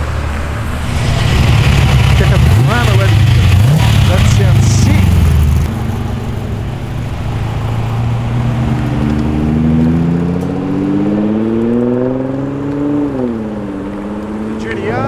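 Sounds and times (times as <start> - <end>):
car accelerating away: 0.0 - 15.0.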